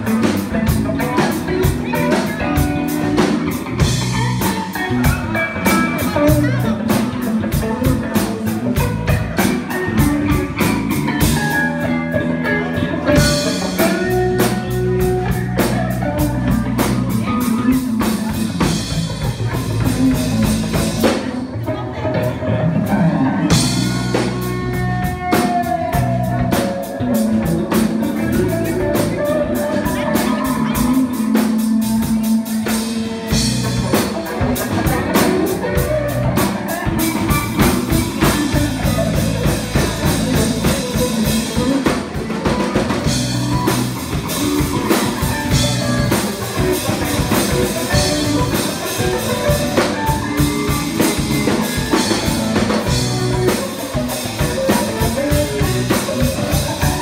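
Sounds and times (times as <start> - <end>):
rock music with drums and guitar: 0.0 - 57.0.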